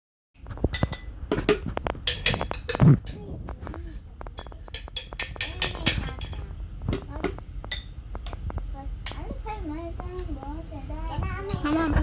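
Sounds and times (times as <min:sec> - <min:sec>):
children banging on pots and pans: 0:00.5 - 0:10.4.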